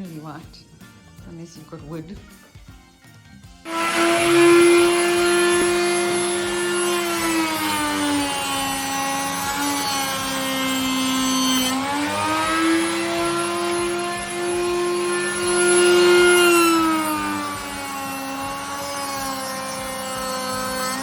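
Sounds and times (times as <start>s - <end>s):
electric router cutting wood: 3.6s - 21.0s.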